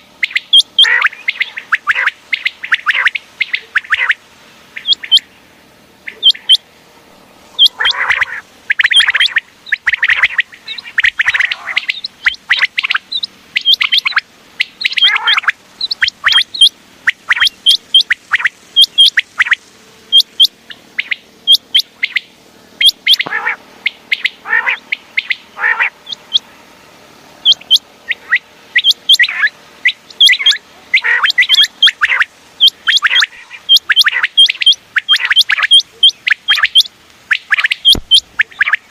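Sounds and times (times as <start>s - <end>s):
quail calling: 0.0s - 26.7s, 27.4s - 38.9s.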